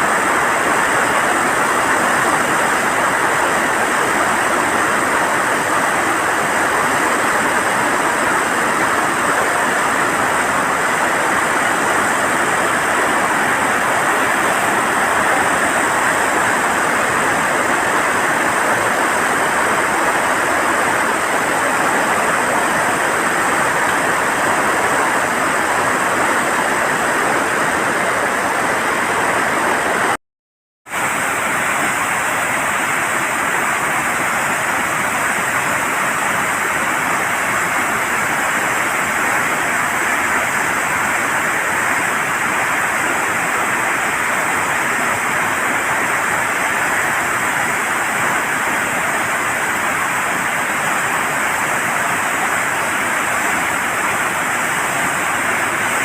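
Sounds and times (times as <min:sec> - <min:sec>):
floodwater rushing through dam gates: 0:00.0 - 0:30.2, 0:30.9 - 0:56.0.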